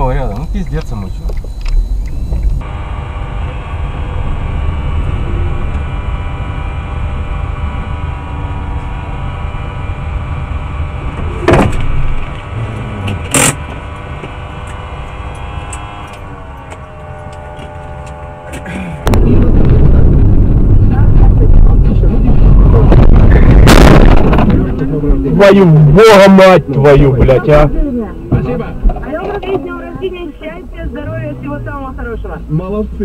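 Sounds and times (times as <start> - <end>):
car engine and cabin hum: 0.0 - 33.0
loud rough noise: 2.6 - 30.2.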